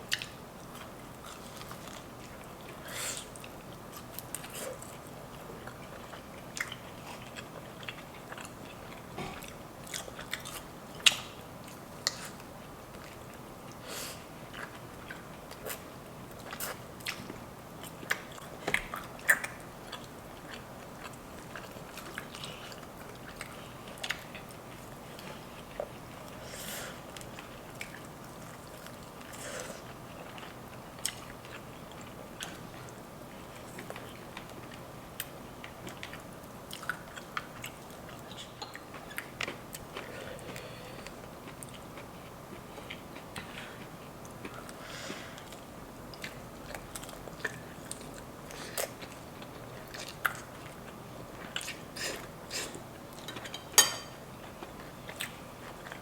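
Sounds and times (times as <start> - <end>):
chewing chicken wing: 0.1 - 44.8, 45.4 - 53.7.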